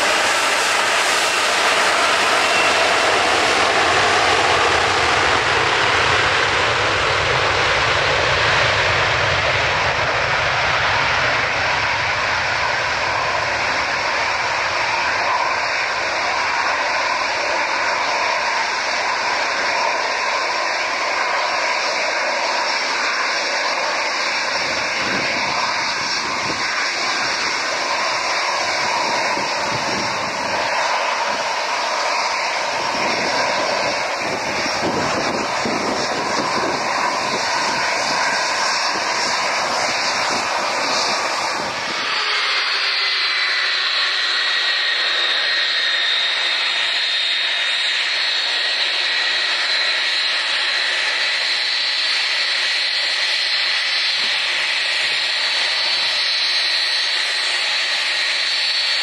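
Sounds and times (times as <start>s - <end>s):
jet engine high whine: 0.0s - 59.0s
jet engines roaring: 0.0s - 59.0s.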